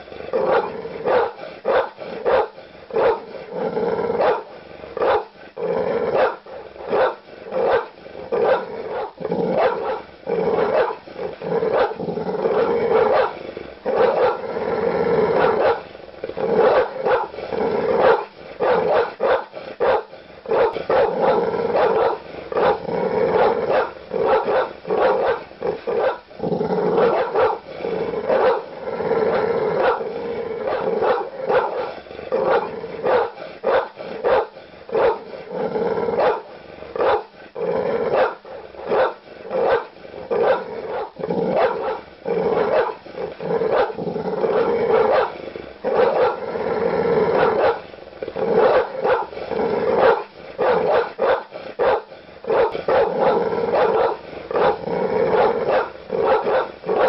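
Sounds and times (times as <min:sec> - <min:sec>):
large dog barking aggressively: 0:00.0 - 0:57.0.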